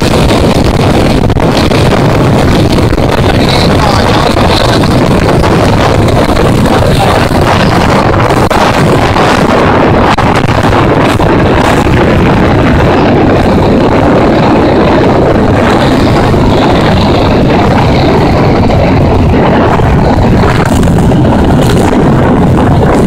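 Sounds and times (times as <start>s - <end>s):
motorcycle engines running: 0.0s - 23.0s
wind rushing over microphone: 0.0s - 23.0s.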